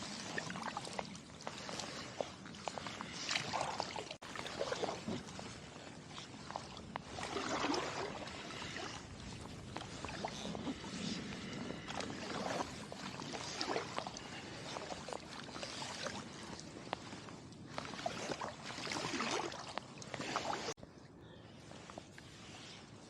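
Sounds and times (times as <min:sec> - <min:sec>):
paddle strokes splashing in water: 0:00.0 - 0:20.8.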